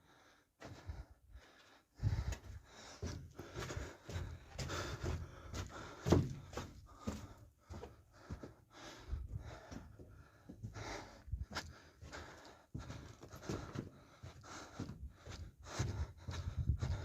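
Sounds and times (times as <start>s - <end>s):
person breathing: 0.0s - 17.0s
footsteps and scuffs in tunnel: 0.1s - 17.0s.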